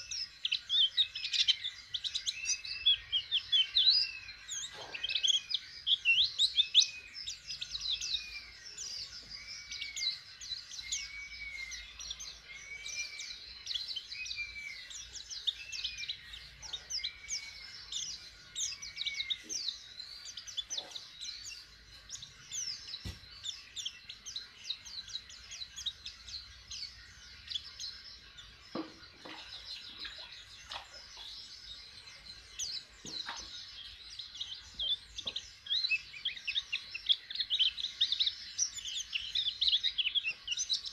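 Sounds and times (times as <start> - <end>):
young bird chirping and twittering: 0.0 - 40.9.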